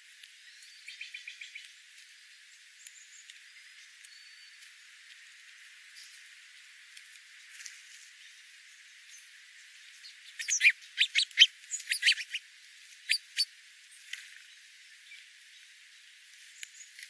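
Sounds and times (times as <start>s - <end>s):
songbird chirping: 0.4s - 17.0s.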